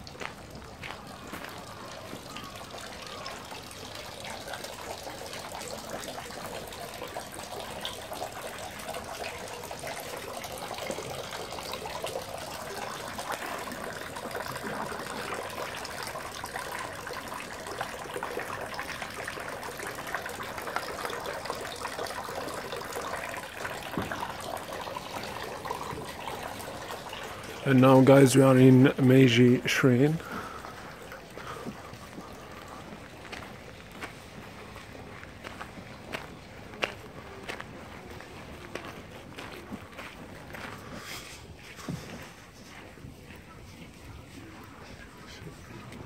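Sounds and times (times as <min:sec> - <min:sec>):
water trickling into stone basin: 0:00.0 - 0:46.0.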